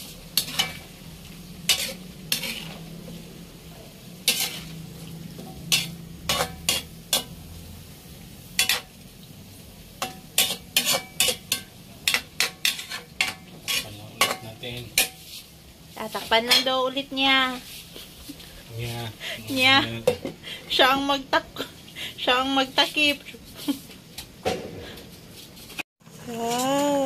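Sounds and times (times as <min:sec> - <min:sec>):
broth simmering hiss: 0:00.0 - 0:12.2, 0:12.8 - 0:16.2, 0:17.2 - 0:27.0
metal utensil scraping wok: 0:00.0 - 0:23.9.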